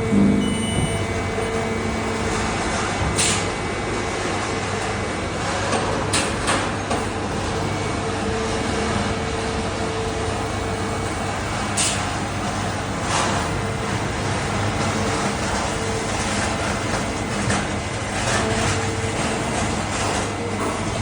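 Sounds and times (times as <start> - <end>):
machine hum with spindle tone: 0.0 - 6.1, 6.8 - 21.0.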